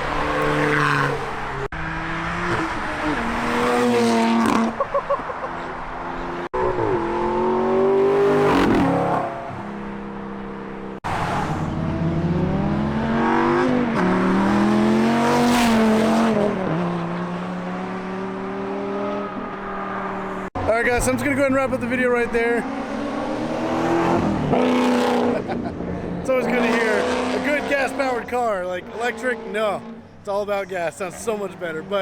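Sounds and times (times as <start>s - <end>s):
exhaust stutter: 0.0s - 32.0s
sports car engines revving past: 0.0s - 32.0s.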